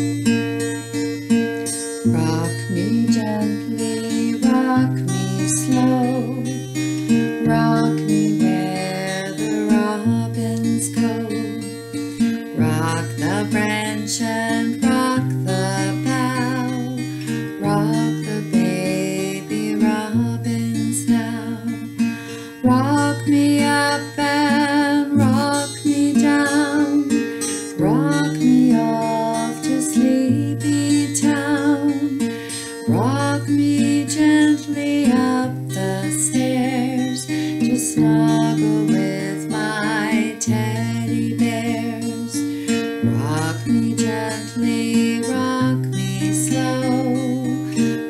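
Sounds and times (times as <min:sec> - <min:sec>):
acoustic guitar playing: 0:00.0 - 0:48.0
woman singing a lullaby: 0:01.8 - 0:48.0.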